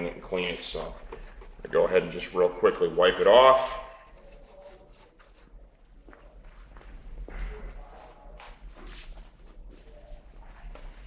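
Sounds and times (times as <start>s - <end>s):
rustling and shuffling: 0.2s - 11.0s.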